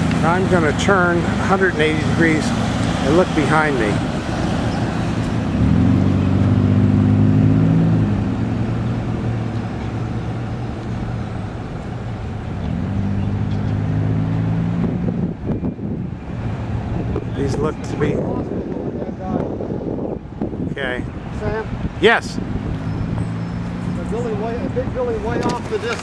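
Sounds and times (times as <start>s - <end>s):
cars driving past: 0.0s - 26.0s
road noise: 0.0s - 26.0s.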